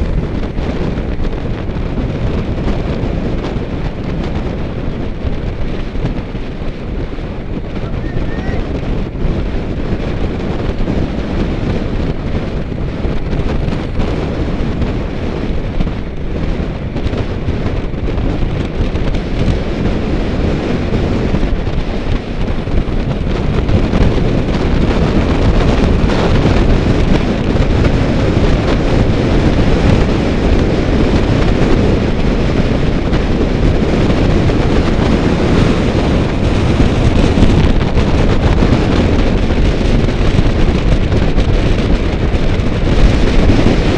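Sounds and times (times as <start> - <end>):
wind roaring on microphone: 0.0 - 43.9.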